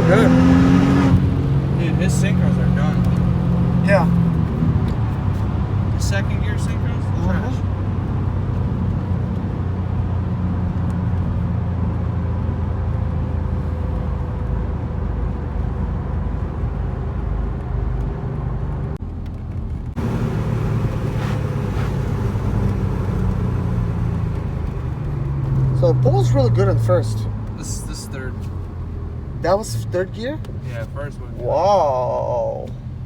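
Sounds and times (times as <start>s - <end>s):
car engine droning while driving: 0.0s - 33.0s.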